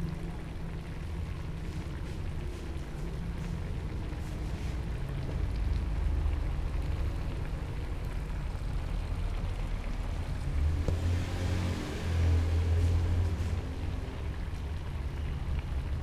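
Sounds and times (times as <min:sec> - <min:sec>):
gas burner rumble: 0:00.0 - 0:16.0
sauce simmering: 0:00.0 - 0:16.0.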